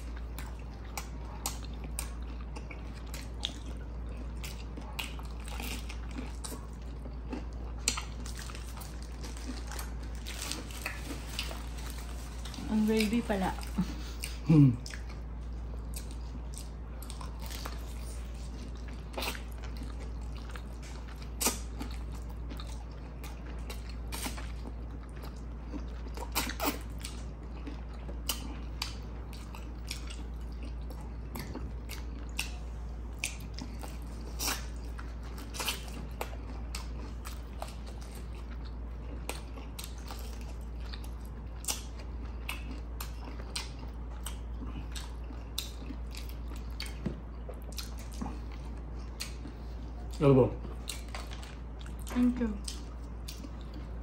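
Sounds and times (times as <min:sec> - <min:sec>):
person chewing and smacking: 0:00.0 - 0:54.0
steady low hum: 0:00.0 - 0:54.0.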